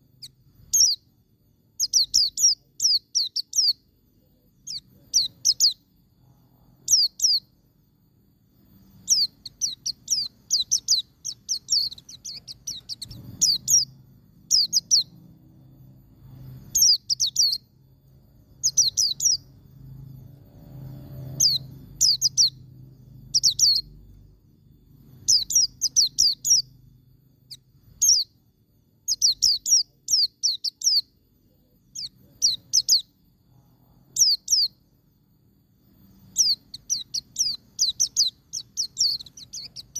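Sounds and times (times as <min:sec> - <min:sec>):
bird singing high chirps: 0:00.0 - 0:07.7, 0:08.8 - 0:35.0, 0:36.0 - 0:39.9
faint low hum: 0:00.0 - 0:39.9.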